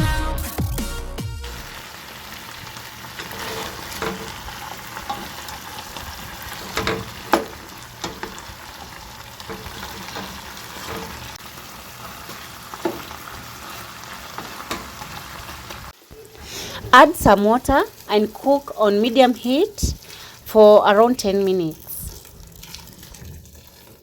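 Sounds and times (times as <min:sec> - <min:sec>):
sauce sizzling in a pot: 0:01.6 - 0:24.0.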